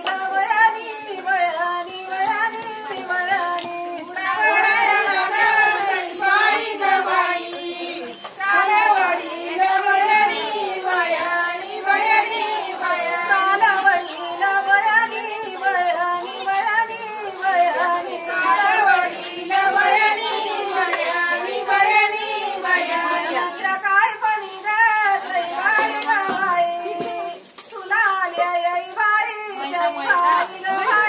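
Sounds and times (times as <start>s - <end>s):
women singing unaccompanied: 0.0s - 31.0s.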